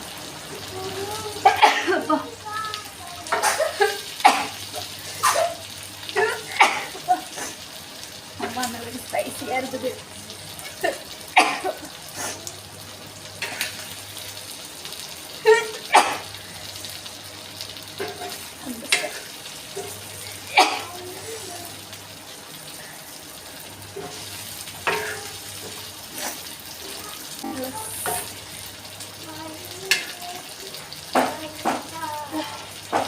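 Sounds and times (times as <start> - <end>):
fish sizzling in hot oil: 0.0 - 33.0.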